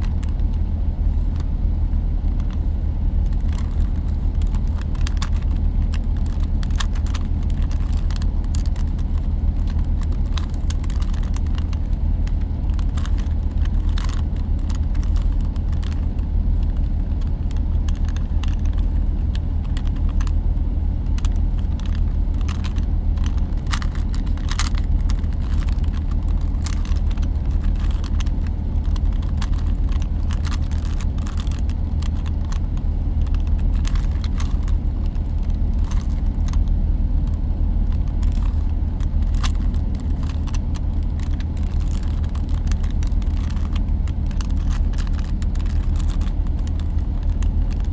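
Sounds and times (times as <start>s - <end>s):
low hum: 0.0s - 47.9s
puzzle cube clicking: 3.2s - 20.4s, 21.0s - 47.9s.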